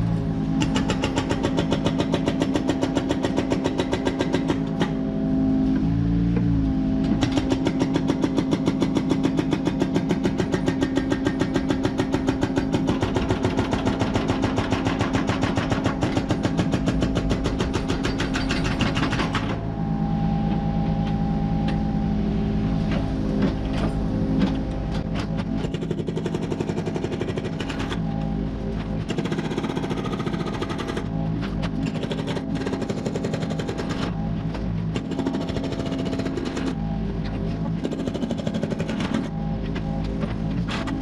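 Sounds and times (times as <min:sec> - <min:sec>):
excavator engine running: 0:00.0 - 0:41.0
hydraulic breaker hammering ground: 0:00.6 - 0:05.0, 0:07.0 - 0:19.6, 0:23.4 - 0:34.3, 0:34.9 - 0:36.9, 0:37.5 - 0:41.0.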